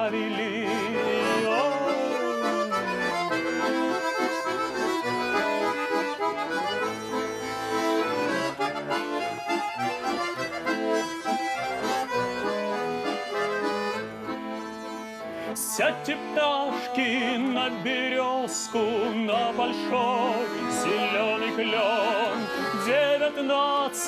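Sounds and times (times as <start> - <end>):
button accordion melody: 0.0 - 24.0.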